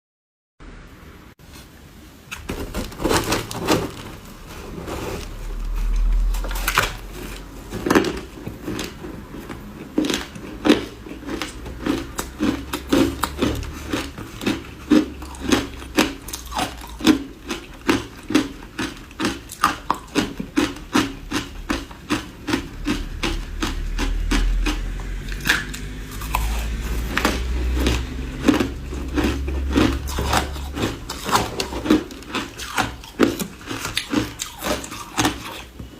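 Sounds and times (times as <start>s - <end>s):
ice crunching being chewed: 2.7s - 35.9s.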